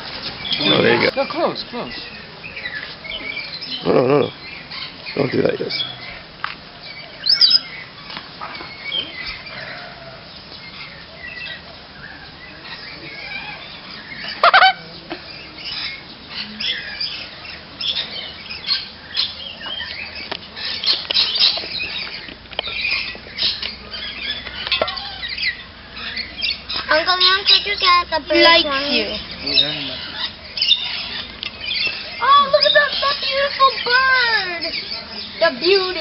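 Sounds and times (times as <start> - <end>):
tropical birds chirping and squawking: 0.0 - 36.0.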